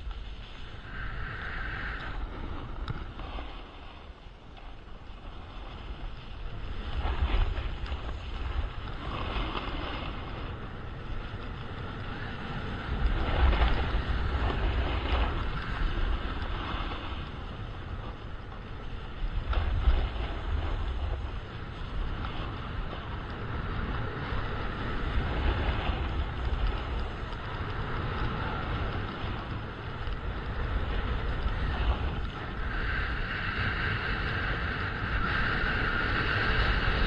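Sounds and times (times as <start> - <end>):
skis scraping on packed snow: 0.0 - 37.0
wind buffeting microphone: 0.0 - 37.0.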